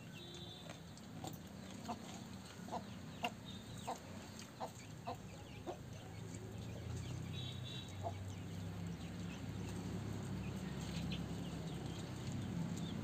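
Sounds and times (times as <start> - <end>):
chickens clucking: 1.0 - 13.0.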